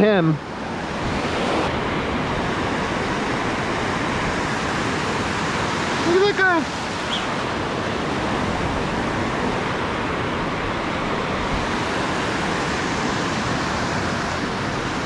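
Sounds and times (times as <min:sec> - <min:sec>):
small waves breaking: 0:00.0 - 0:15.0
water washing through shallows: 0:00.0 - 0:15.0.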